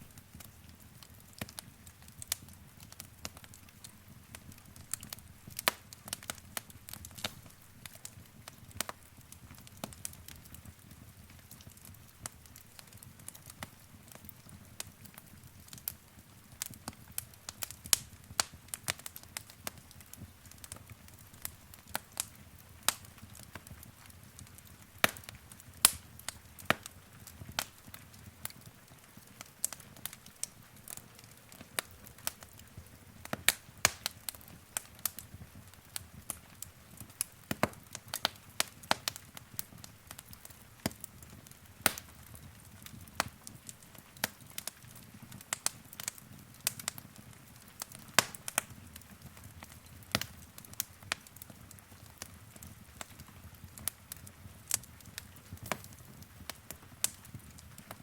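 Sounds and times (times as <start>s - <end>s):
low rumble of flame: 0.0s - 58.0s
wood fire crackling and popping: 0.0s - 58.0s.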